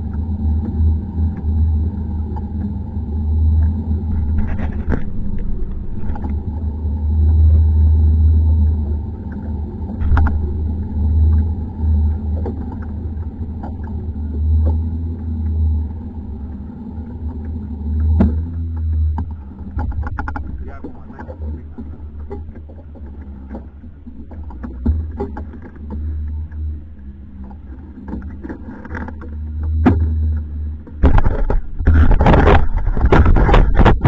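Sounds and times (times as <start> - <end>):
boat engine rumble: 0.0 - 34.0
faint high whine: 0.0 - 34.0.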